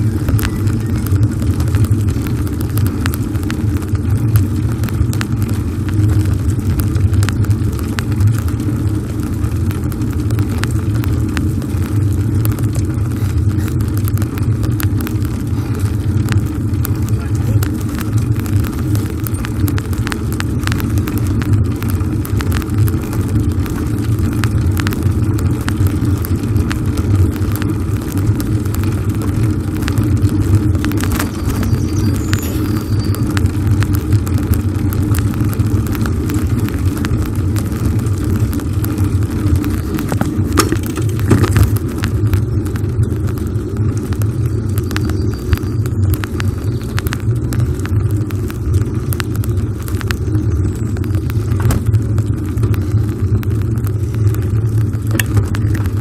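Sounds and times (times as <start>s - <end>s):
bicycle tyre noise: 0.0s - 56.0s
small clicks and rattles: 0.0s - 56.0s
wind rumble on microphone: 0.0s - 56.0s.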